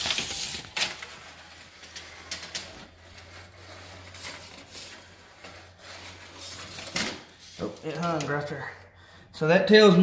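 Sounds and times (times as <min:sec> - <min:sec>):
tape measure scraping and rattling: 0:00.0 - 0:08.6.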